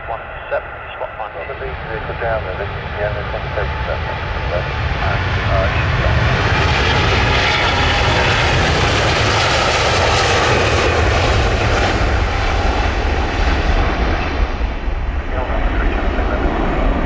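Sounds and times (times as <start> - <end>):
jet airliner engine roar: 0.0 - 17.0.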